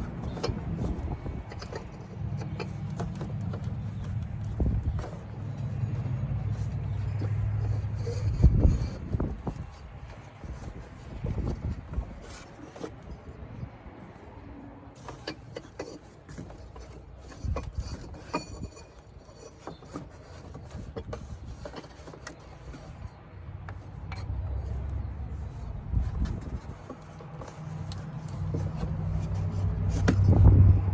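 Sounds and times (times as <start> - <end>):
cardboard box rubbing and scraping: 0.0 - 30.9.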